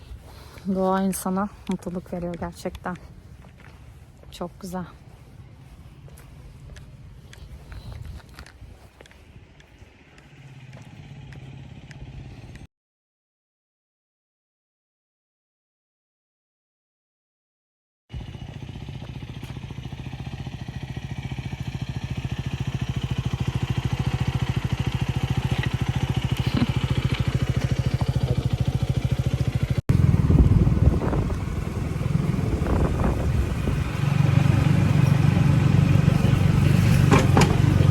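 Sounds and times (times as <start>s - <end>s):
motorcycle engine running: 0.0s - 12.7s, 18.1s - 37.9s.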